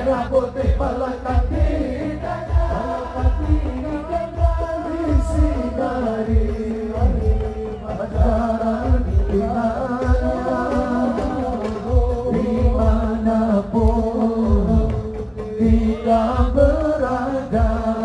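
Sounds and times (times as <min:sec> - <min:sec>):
deep drum beats: 0:00.0 - 0:18.0
man singing through pa: 0:00.0 - 0:18.0.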